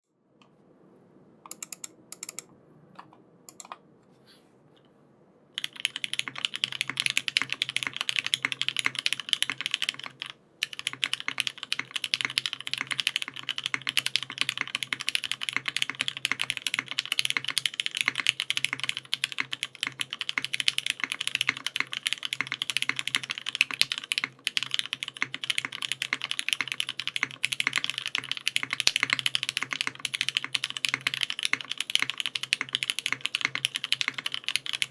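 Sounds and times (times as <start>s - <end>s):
mechanical keyboard typing: 1.5s - 2.5s, 3.5s - 3.8s, 5.6s - 34.9s.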